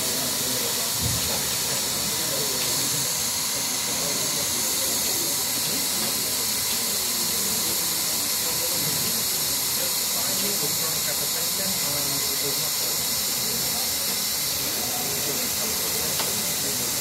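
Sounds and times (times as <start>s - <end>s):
faint indistinct voices: 0.0s - 17.0s
loud steady hiss: 0.0s - 17.0s.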